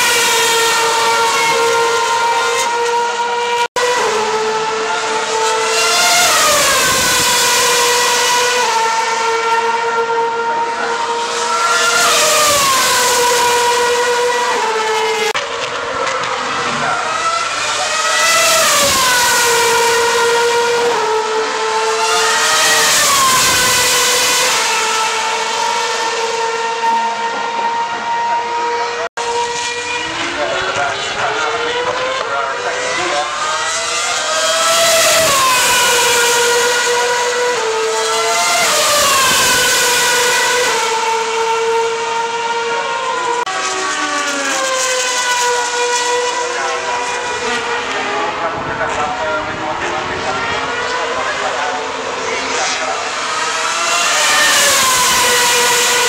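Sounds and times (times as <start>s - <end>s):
racing car engine passing: 0.0s - 56.0s.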